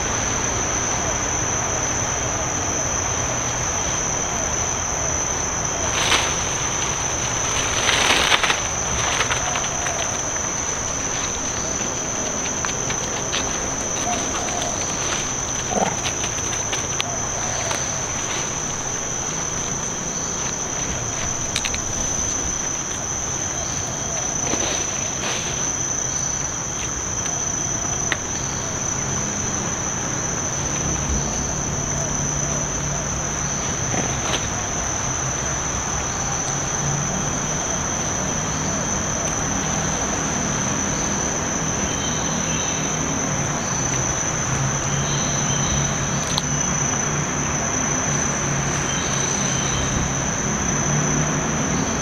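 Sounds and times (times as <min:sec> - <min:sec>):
insect chorus drone: 0:00.0 - 0:52.0.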